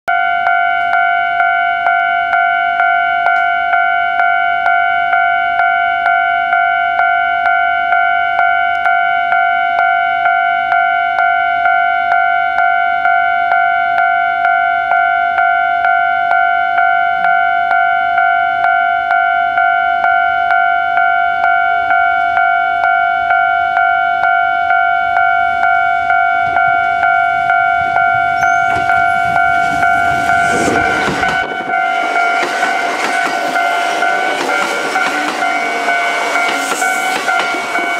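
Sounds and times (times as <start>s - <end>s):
electric train approaching: 0.1s - 37.9s
level-crossing warning bell: 0.1s - 37.9s.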